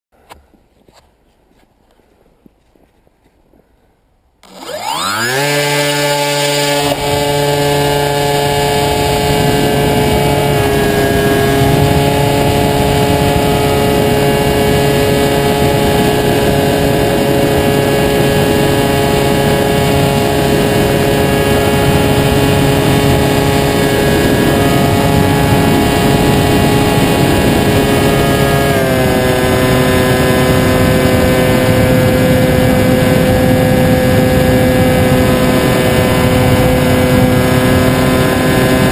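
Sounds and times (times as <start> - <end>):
model airplane motor droning: 4.4 - 38.9.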